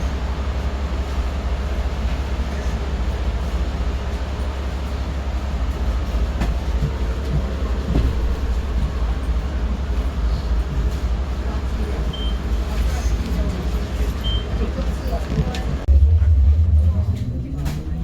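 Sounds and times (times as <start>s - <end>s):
low train-like rumble: 0.0s - 18.0s.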